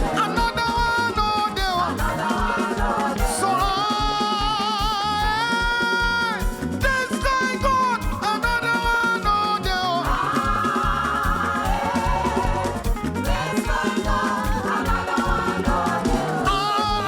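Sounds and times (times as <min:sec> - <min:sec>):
gospel music with driving beat: 0:00.0 - 0:17.0.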